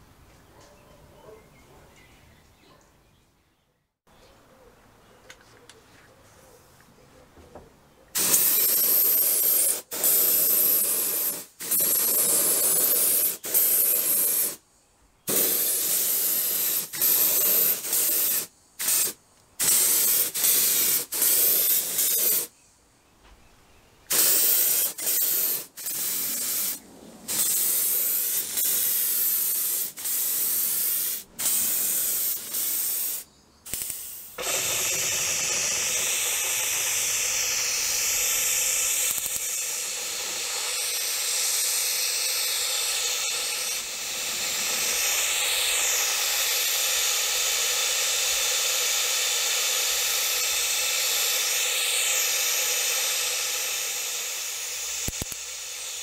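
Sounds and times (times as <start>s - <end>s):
spray gun hissing: 8.2s - 14.6s, 15.3s - 22.5s, 24.1s - 56.0s.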